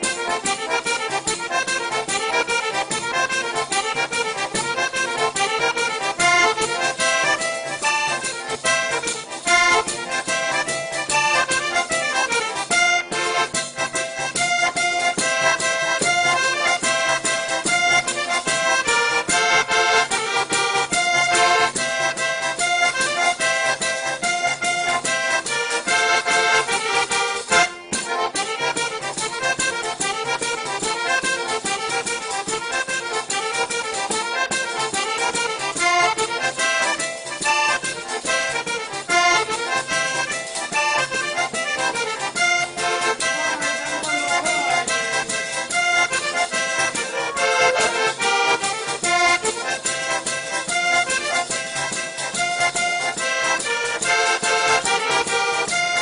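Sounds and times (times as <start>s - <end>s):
accordion playing folk tune: 0.0s - 56.0s.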